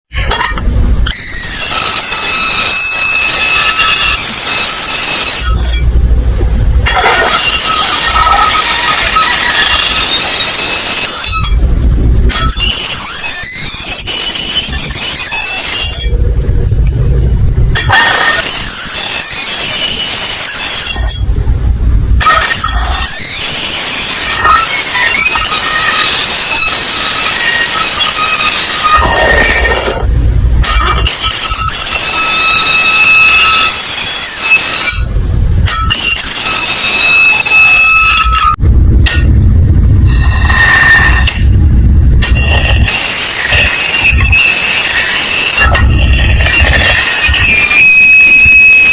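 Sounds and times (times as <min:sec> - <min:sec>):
harsh alarm tone and squeals: 0:00.1 - 0:48.9
low rumble: 0:00.2 - 0:03.2, 0:03.8 - 0:32.8, 0:33.5 - 0:37.1, 0:37.8 - 0:48.5.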